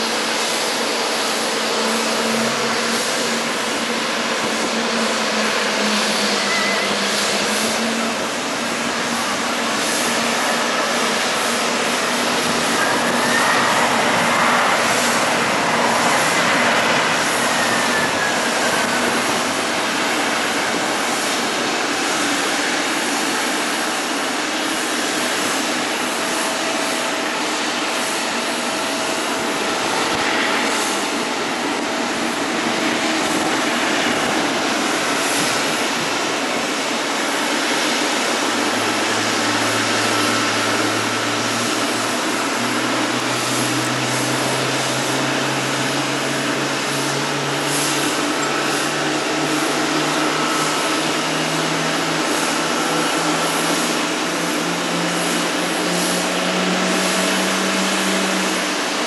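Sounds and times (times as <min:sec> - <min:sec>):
jet engines rushing and whining: 0:00.0 - 0:59.0.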